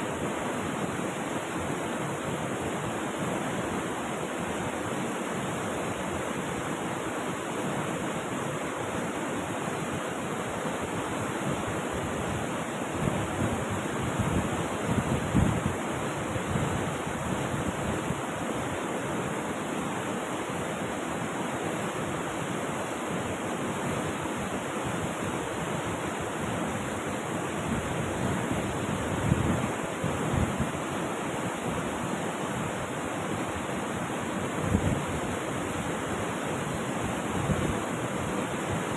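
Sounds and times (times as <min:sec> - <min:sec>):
flowing river water: 0:00.0 - 0:38.9.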